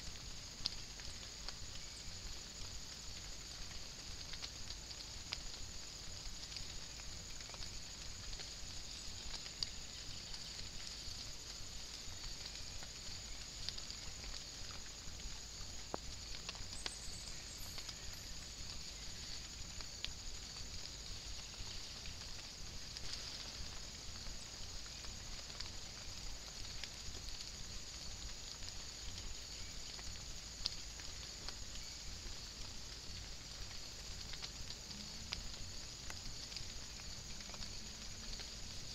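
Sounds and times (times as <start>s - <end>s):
light rain hiss: 0.0s - 38.9s
raindrops ticking: 0.0s - 38.9s.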